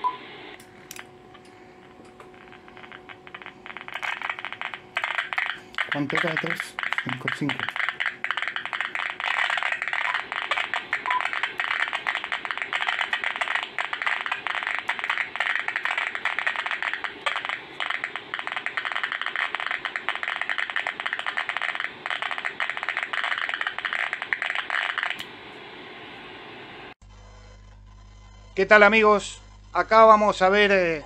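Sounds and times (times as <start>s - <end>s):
radio static hiss and crackling: 0.0s - 27.0s.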